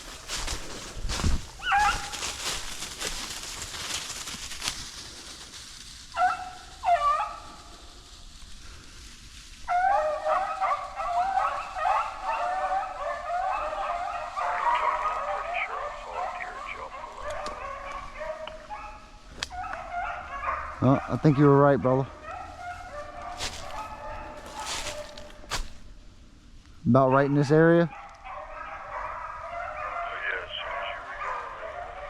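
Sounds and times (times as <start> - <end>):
hounds baying: 0.0 - 5.3, 6.1 - 8.1, 9.6 - 25.8, 26.9 - 32.0.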